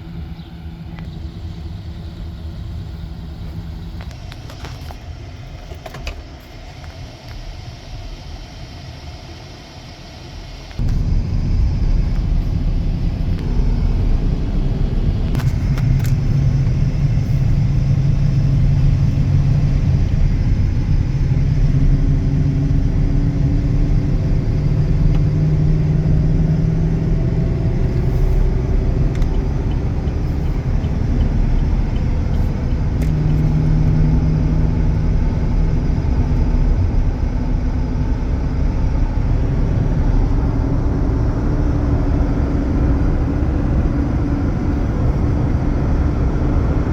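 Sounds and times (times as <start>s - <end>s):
truck engine rumbling: 0.0s - 9.4s, 10.3s - 46.9s.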